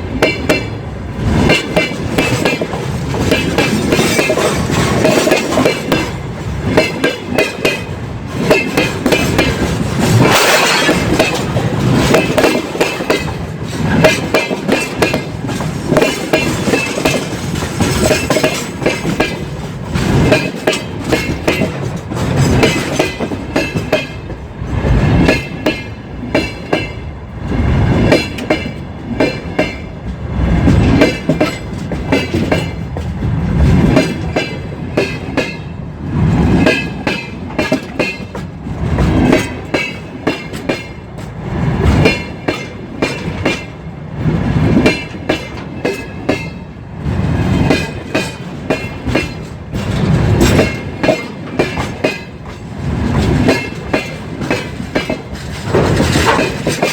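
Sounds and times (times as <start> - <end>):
steady train rumble: 0.0 - 56.9
train wheels clattering over rail joints: 0.2 - 56.9.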